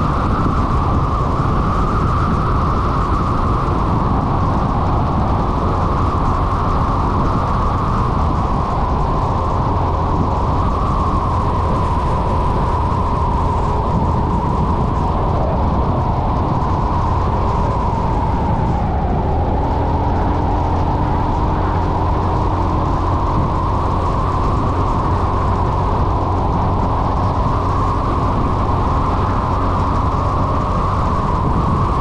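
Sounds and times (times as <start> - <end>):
road noise: 0.0 - 32.0
wind rush on microphone: 0.0 - 32.0.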